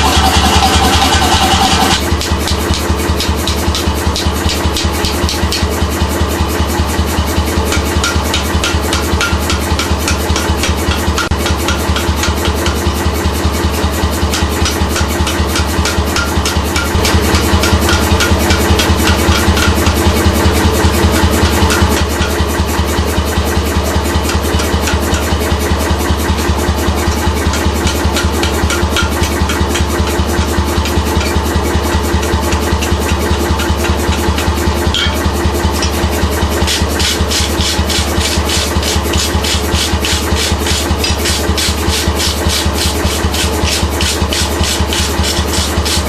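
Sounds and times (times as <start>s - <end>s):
pneumatic forging hammer blows: 0.0s - 46.0s.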